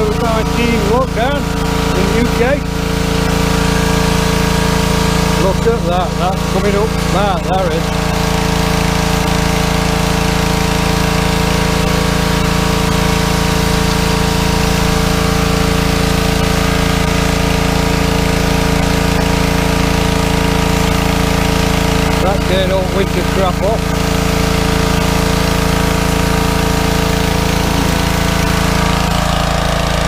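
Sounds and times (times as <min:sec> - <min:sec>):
small engine running: 0:00.0 - 0:30.0
water spray hissing: 0:00.0 - 0:30.0.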